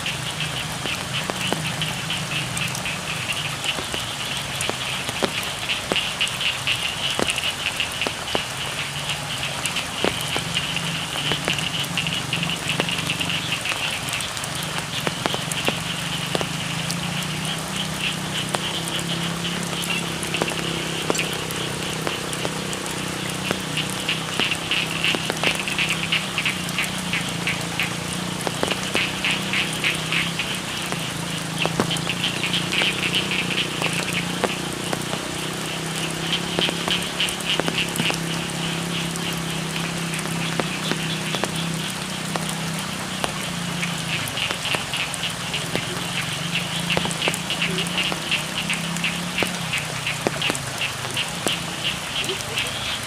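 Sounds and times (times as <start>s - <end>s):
drip ticks: 0.0s - 53.0s
frogs trilling: 0.0s - 53.0s
steady rain: 0.0s - 53.0s.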